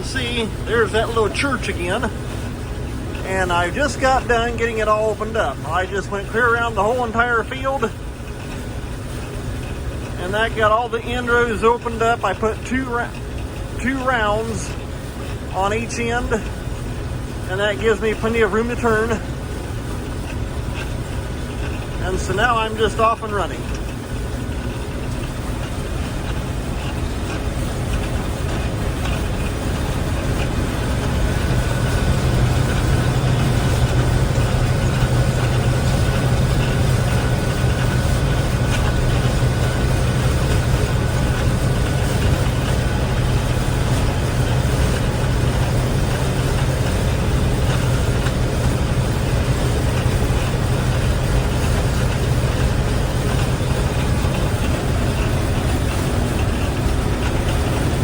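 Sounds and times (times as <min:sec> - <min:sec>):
combine harvester engine drone: 0:00.0 - 0:58.0
threshing machinery noise: 0:00.0 - 0:58.0.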